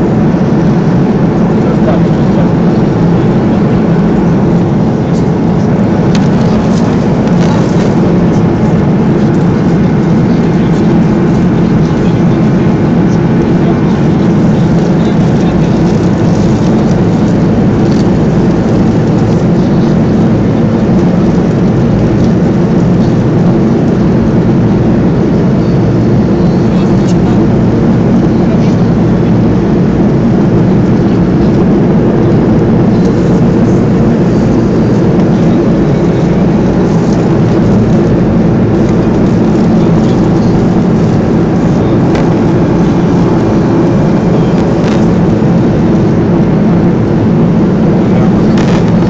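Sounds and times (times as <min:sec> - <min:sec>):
airplane engines droning in cabin: 0:00.0 - 0:49.0.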